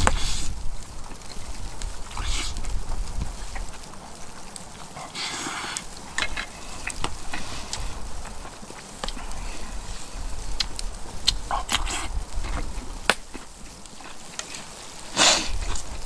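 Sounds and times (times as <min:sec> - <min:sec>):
noodle slurping and chewing: 0:00.0 - 0:16.0.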